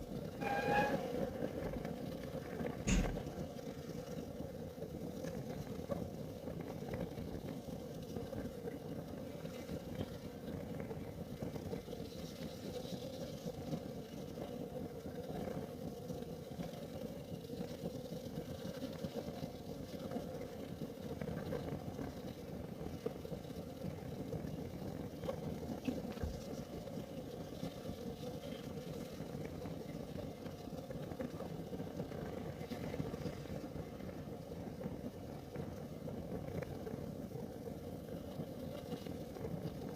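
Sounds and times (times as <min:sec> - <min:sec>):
heater burning rumble: 0:00.0 - 0:39.9.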